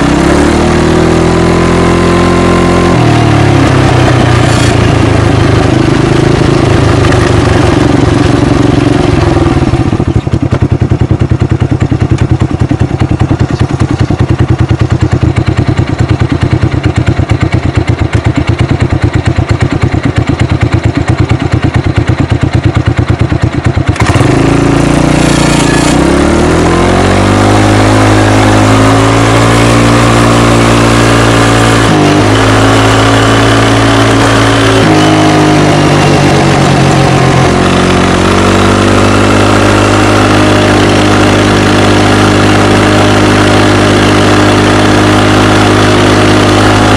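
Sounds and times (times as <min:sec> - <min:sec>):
atv engine accelerating: 0:00.0 - 0:46.9.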